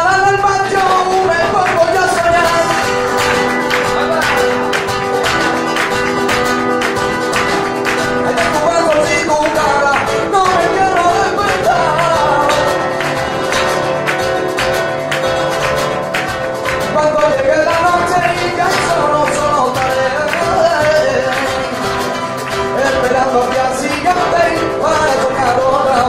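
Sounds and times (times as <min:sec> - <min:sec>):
guitar and percussion: 0:00.0 - 0:26.0.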